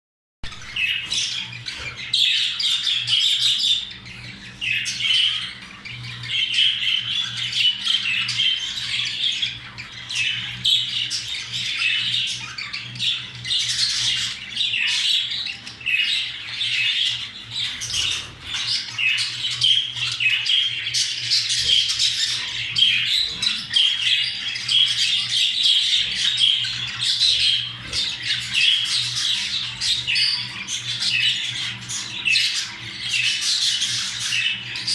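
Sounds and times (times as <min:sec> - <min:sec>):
budgerigars chattering and warbling: 0:00.4 - 0:34.9.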